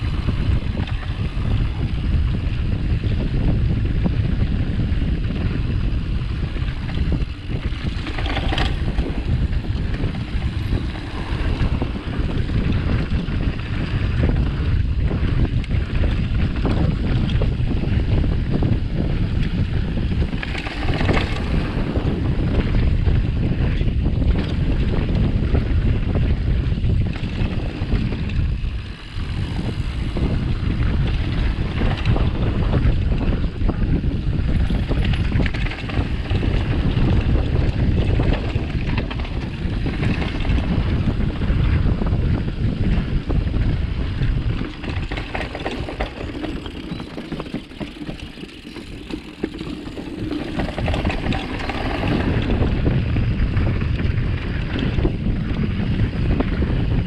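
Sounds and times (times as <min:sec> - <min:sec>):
bike rattling on rough ground: 0:00.0 - 0:57.0
tyre rumble: 0:00.0 - 0:57.0
wind buffeting microphone: 0:00.0 - 0:57.0.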